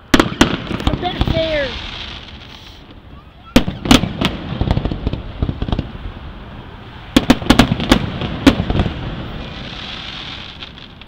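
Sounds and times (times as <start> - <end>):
firework hiss: 0.0 - 11.0.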